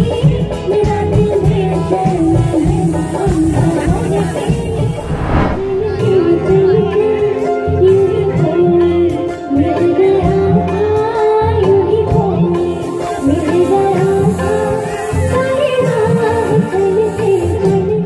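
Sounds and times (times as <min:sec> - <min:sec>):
woman singing into a microphone: 0:00.0 - 0:05.0, 0:05.8 - 0:18.0.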